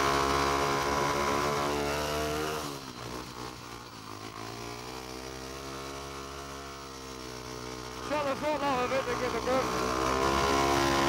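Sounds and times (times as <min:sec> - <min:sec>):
motorcycle engine running hard: 0:00.0 - 0:11.0.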